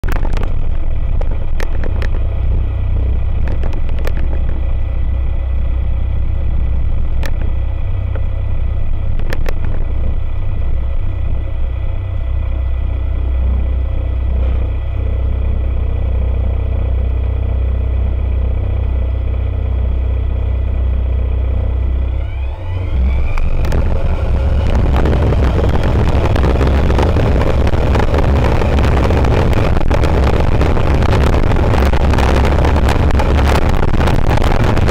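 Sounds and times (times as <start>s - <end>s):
light aircraft engine and propeller: 0.0s - 34.9s
wind noise: 0.0s - 34.9s.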